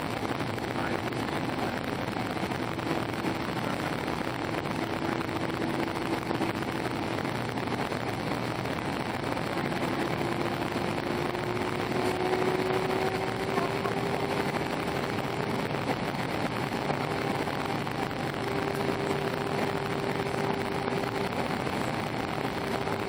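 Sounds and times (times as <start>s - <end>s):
jet engine roar in cabin: 0.0s - 23.0s.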